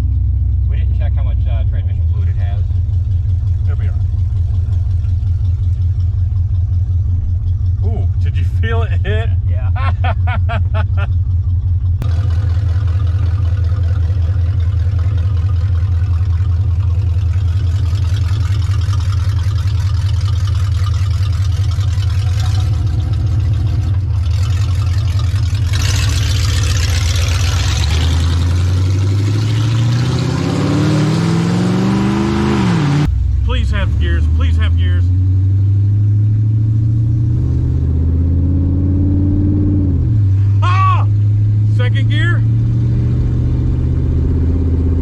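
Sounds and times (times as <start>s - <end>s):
car engine running and revving: 0.0s - 45.0s.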